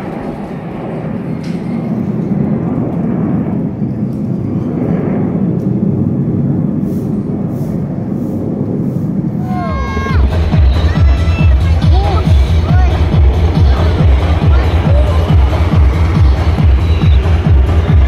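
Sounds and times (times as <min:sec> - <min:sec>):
jets flying past: 0:00.0 - 0:18.0.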